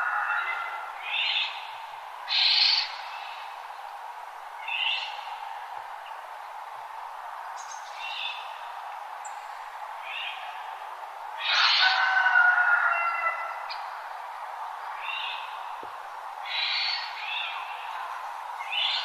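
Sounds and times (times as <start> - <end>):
birds calling: 0.0 - 4.0, 4.6 - 10.8, 11.4 - 14.2, 14.8 - 19.0
outdoor ambience hiss: 0.0 - 19.0.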